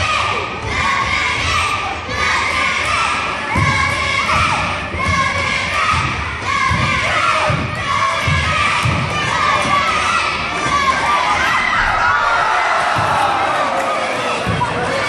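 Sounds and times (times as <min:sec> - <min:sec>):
children shouting and cheering: 0:00.0 - 0:15.0.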